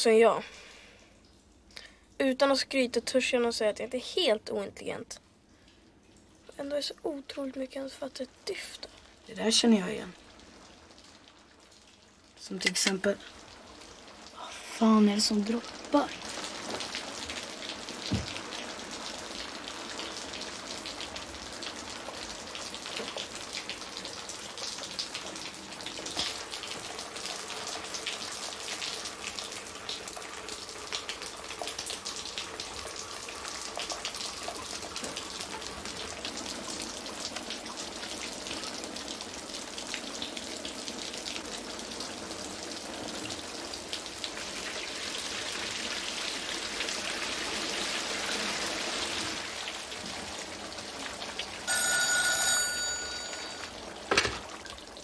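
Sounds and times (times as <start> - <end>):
steady rain with dripping: 0.0 - 55.0.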